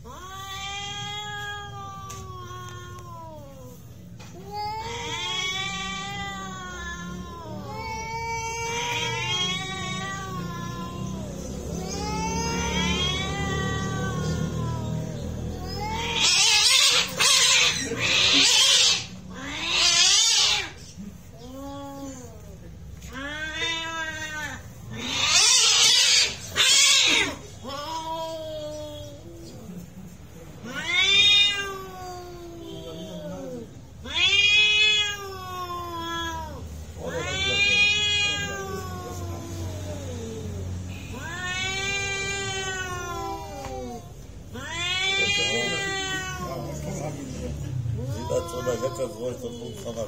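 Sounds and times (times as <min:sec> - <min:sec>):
cat yowling: 0:00.0 - 0:29.8, 0:30.6 - 0:50.0
cat growling: 0:00.0 - 0:50.0
cats hissing: 0:00.0 - 0:50.0.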